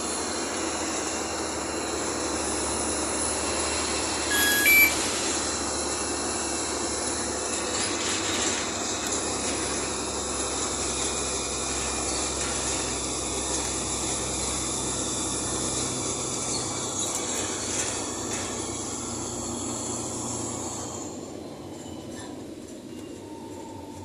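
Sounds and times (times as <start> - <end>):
bus engine rumble: 0.0 - 24.0
road roar and hiss: 0.0 - 24.0.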